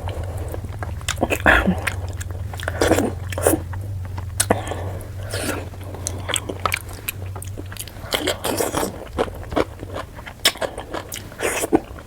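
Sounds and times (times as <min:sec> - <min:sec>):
low hum: 0:00.0 - 0:12.0
mouth clicks: 0:00.0 - 0:12.0
wet chewing and lip smacks: 0:00.0 - 0:12.0.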